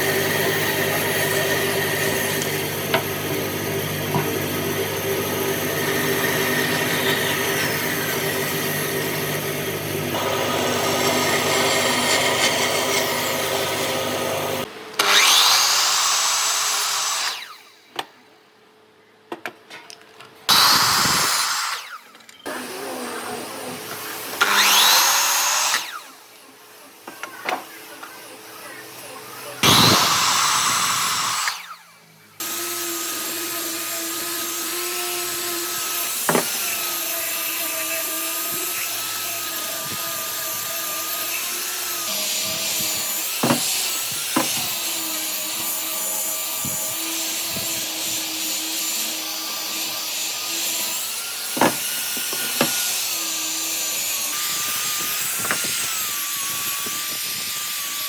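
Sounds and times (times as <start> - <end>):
electric power tool on wood: 0.0 - 17.8, 20.5 - 58.0.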